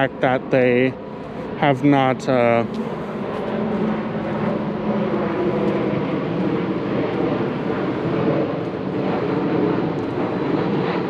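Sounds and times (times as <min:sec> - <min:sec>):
airplane engine drone: 0:00.0 - 0:11.0.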